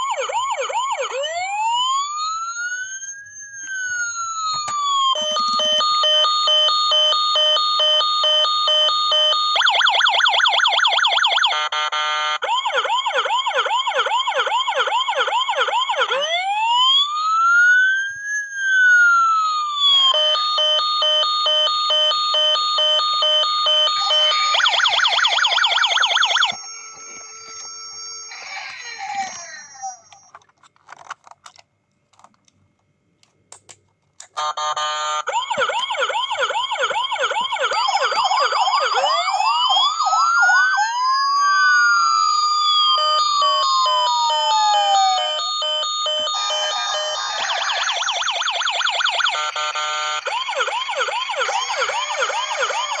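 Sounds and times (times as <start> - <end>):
toy siren yelps and wail: 0.0 - 30.5, 34.4 - 53.0.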